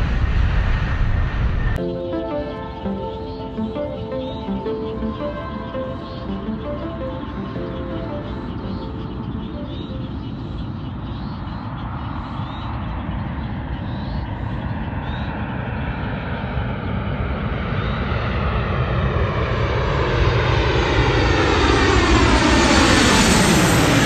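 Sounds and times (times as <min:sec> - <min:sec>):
jet engines whooshing: 0:00.0 - 0:24.0.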